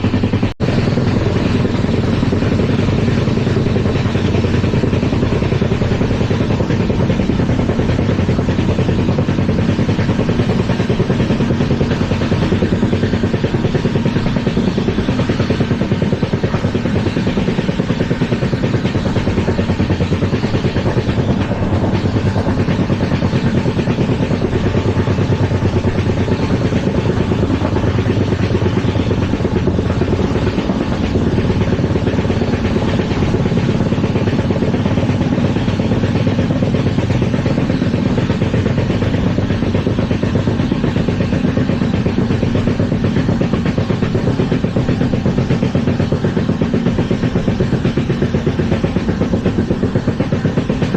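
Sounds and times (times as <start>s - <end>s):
train coach rumbling and rattling: 0.0s - 50.9s.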